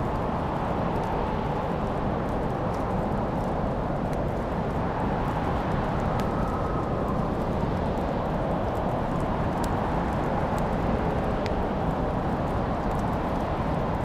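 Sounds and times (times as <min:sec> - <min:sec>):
fire crackling and popping: 0:00.0 - 0:14.0
fire flames rushing: 0:00.0 - 0:14.0.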